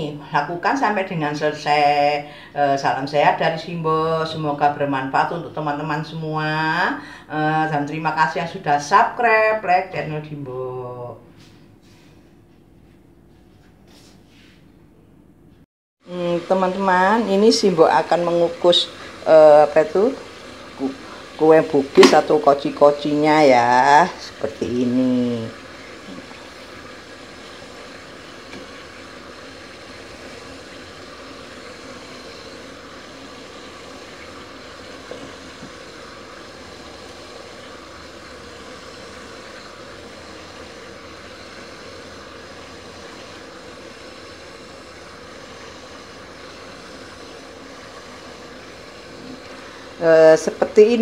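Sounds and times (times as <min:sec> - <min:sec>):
water boiling in pot: 0:00.0 - 0:10.9, 0:16.0 - 0:51.0.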